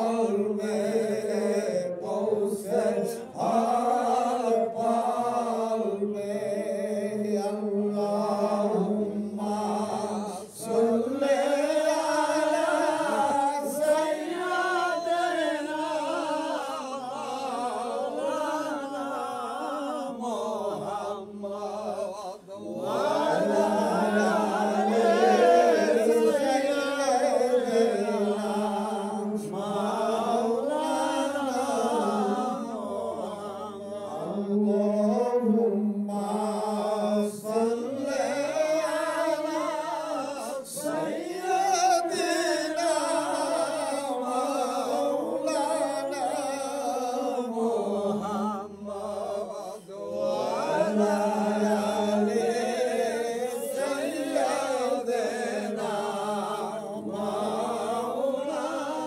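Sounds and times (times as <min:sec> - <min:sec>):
man chanting melodically: 0:00.0 - 0:59.0.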